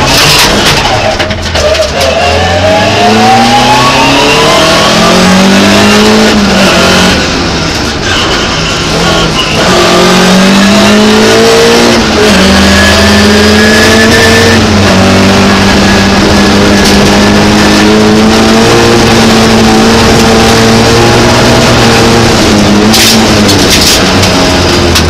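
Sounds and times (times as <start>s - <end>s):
rally car engine accelerating: 0.0s - 25.0s.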